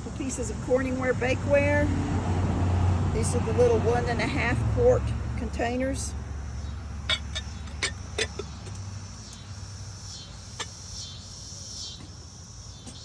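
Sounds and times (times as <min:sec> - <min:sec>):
cicadas singing: 0:00.0 - 0:13.0.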